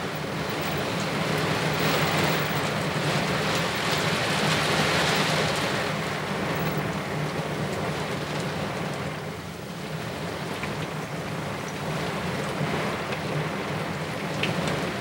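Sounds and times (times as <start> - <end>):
heavy rain downpour: 0.0 - 15.0
wind: 0.0 - 15.0.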